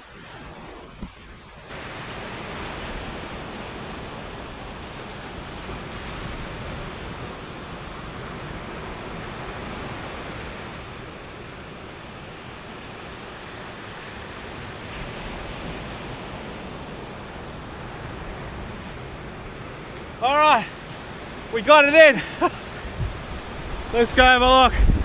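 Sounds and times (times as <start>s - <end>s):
ocean surf washing onto beach: 0.0s - 25.0s.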